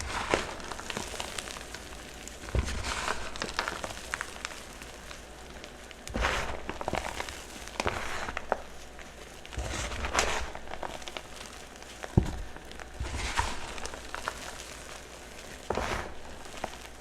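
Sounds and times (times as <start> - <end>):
chalk crunching and crumbling: 0.0 - 17.0.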